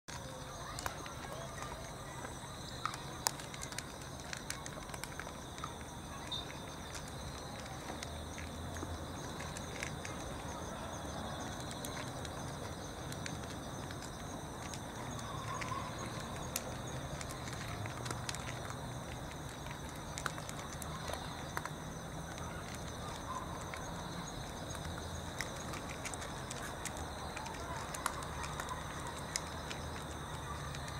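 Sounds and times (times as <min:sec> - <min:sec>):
cats chewing and crunching: 0:00.1 - 0:30.9.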